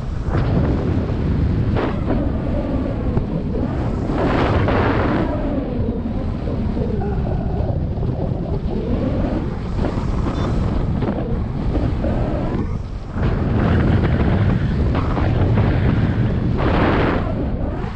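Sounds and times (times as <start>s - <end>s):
wind blowing across microphone: 0.0s - 17.9s.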